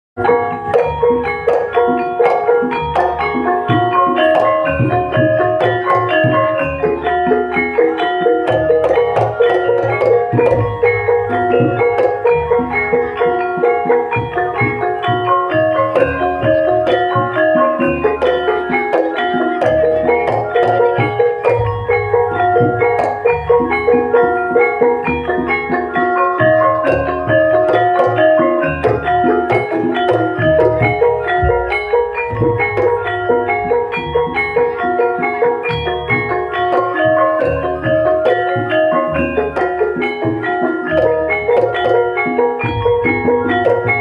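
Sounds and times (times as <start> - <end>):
deep drum beats: 0.2 - 44.0
tuned metal percussion melody: 0.2 - 44.0.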